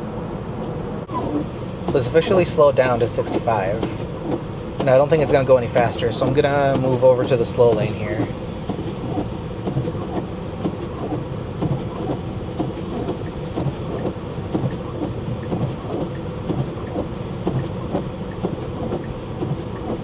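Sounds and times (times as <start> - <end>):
tyre rumble inside car: 0.6 - 20.0.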